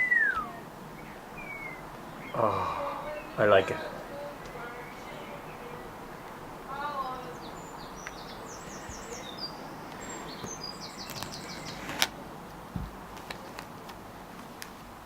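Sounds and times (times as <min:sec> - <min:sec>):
faint ticks: 0:00.0 - 0:15.0
small birds chirping: 0:00.0 - 0:15.0
steady background hiss: 0:00.0 - 0:15.0.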